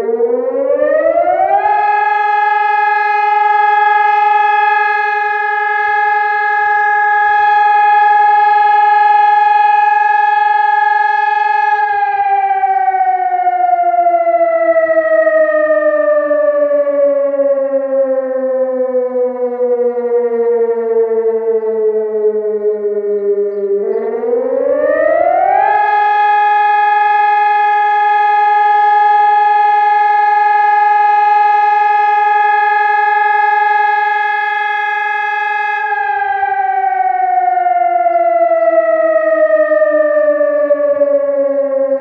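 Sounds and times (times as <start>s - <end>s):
civil defence siren steady tone: 0.0s - 42.0s.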